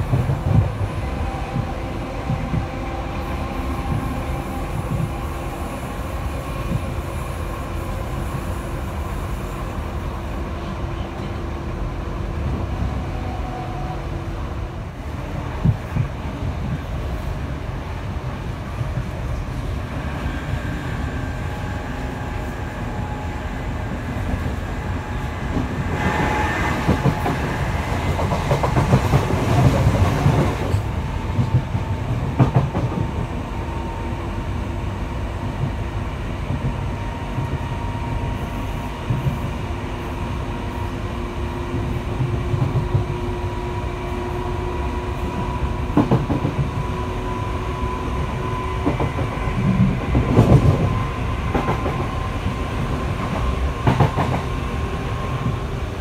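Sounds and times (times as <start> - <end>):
train wheels rumbling over rails: 0.0 - 56.0.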